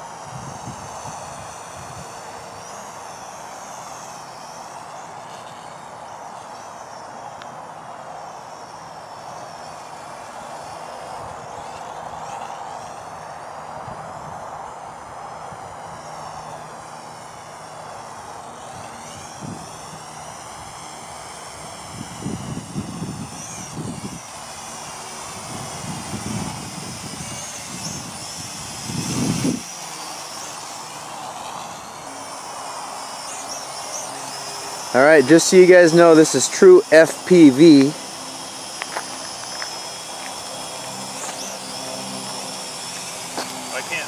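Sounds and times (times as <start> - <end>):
quadcopter propellers whining: 0.0 - 44.0.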